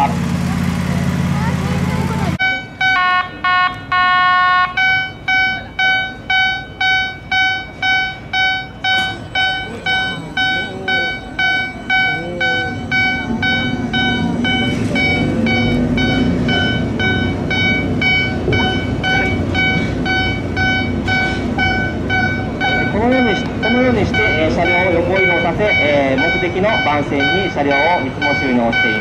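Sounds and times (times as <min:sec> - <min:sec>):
low drive hum: 0:00.0 - 0:29.0
high pitched warning buzzer beeps: 0:02.4 - 0:29.0.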